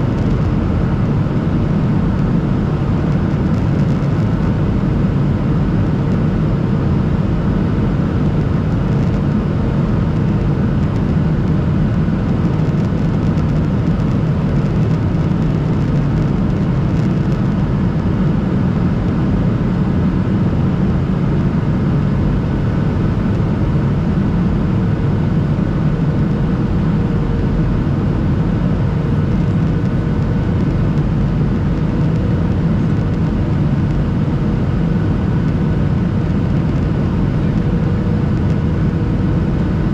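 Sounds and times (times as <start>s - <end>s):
faint steady whine: 0.0s - 39.9s
jet engine drone: 0.0s - 39.9s.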